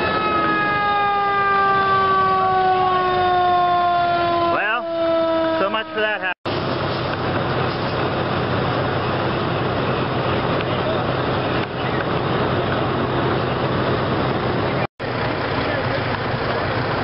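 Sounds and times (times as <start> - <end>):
fire engine pump humming: 0.0 - 17.0.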